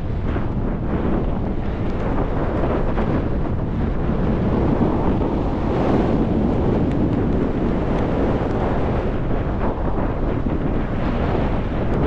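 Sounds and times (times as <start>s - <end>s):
wind blowing over microphone: 0.0s - 12.0s.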